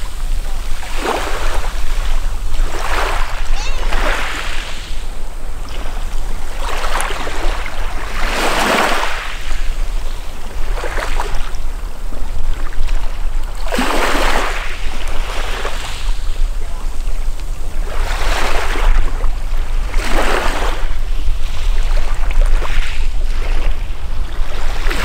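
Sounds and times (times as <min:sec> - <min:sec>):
waves washing on pebble beach: 0:00.0 - 0:25.0.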